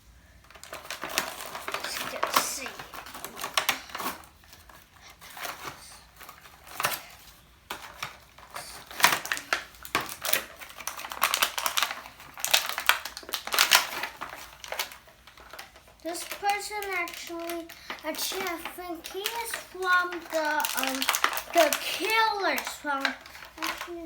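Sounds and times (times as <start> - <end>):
plastic packaging crinkling: 0.4 - 24.0.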